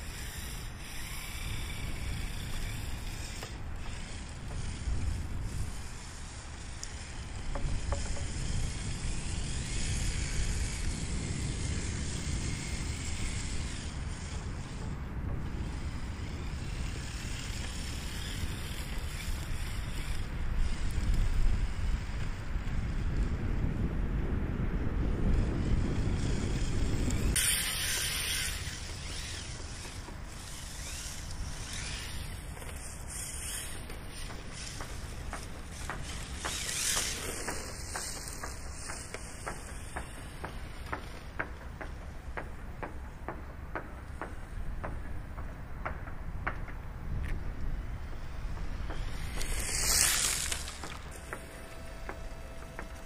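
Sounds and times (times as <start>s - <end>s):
rc car passing by: 0.0s - 43.2s, 46.1s - 53.0s
wind buffeting microphone: 0.0s - 53.0s.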